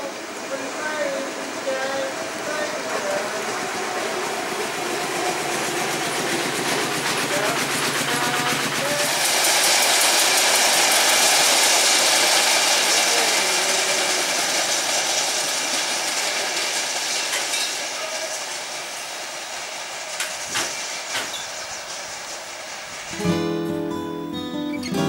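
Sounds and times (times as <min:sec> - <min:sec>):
rail trolley rattling on rails: 0:00.0 - 0:23.8.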